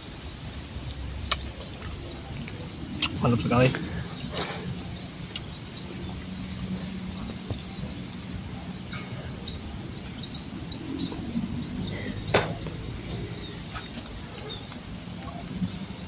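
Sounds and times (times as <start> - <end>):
outdoor background hum: 0.0 - 16.0
small birds chirping: 0.0 - 16.0.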